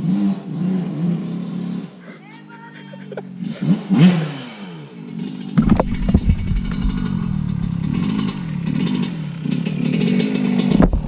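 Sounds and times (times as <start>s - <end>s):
dirt bike engine with throttle blips: 0.0s - 11.0s.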